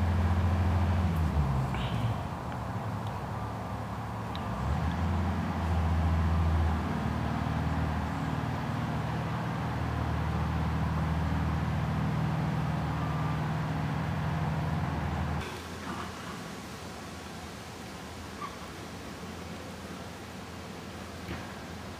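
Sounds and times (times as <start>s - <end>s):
low engine hum: 0.0s - 21.9s.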